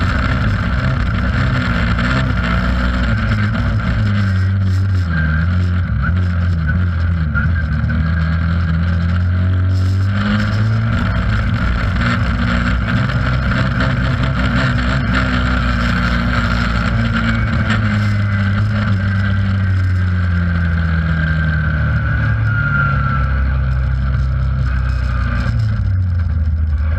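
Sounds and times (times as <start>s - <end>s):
race car engine revving: 0.0s - 26.9s.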